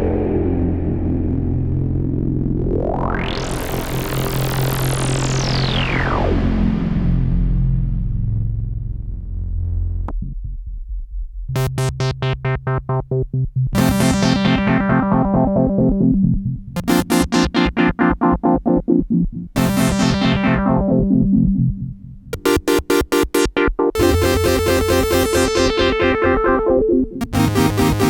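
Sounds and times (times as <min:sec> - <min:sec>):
pulsing synthesizer chords: 0:00.0 - 0:08.6, 0:11.5 - 0:28.0.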